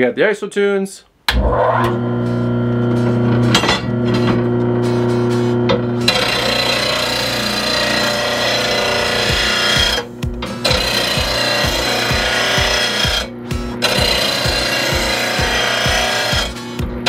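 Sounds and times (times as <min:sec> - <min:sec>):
grinder wheel grinding steel: 0:01.3 - 0:16.8
motor humming: 0:01.3 - 0:17.0.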